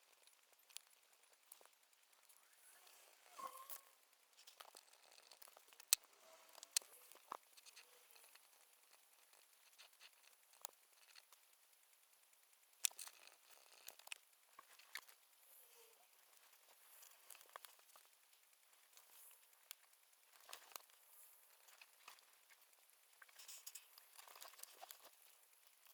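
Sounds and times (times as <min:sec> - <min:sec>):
quiet hiss: 0:00.0 - 0:25.9.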